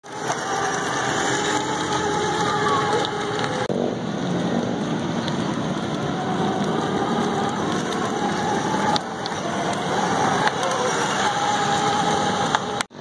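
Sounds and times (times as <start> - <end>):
toy car wheels and motor: 0.0 - 3.7, 4.8 - 12.9.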